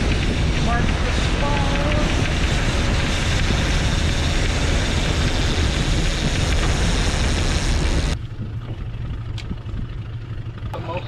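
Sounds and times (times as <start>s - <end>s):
boat rushing through water: 0.0s - 11.0s
low engine hum: 0.0s - 11.0s.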